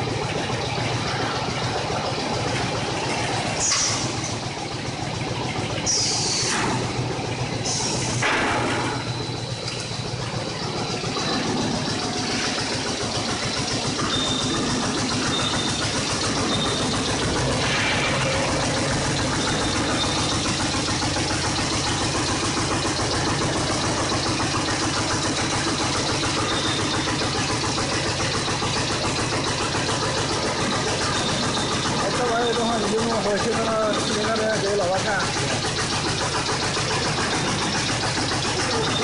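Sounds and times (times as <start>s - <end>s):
fast-repeating mechanical punching: 1.9s - 39.0s.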